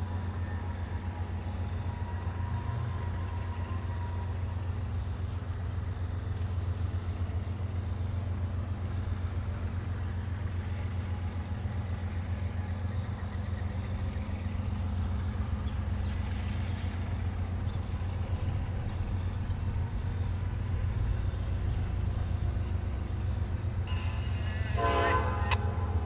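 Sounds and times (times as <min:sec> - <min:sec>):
heavy engine rumbling: 0:00.0 - 0:26.0.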